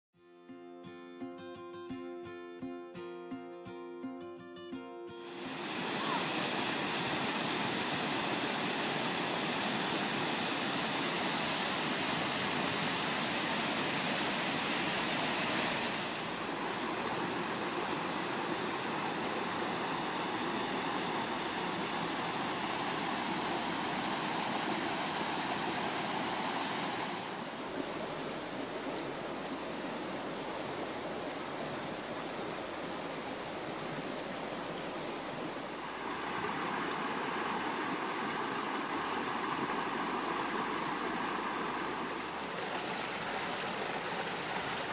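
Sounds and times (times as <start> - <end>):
creek running over rocks: 5.3 - 44.9
waterfall rushing over rocks: 5.3 - 44.9.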